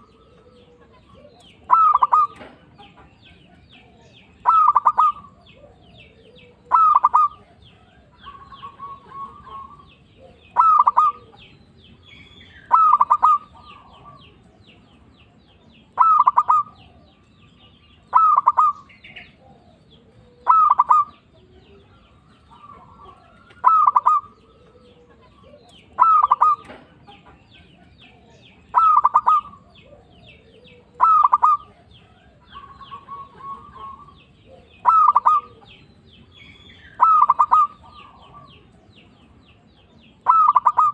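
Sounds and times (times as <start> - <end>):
dove cooing: 0.0 - 15.1, 15.7 - 40.9
small birds chirping: 0.0 - 40.9.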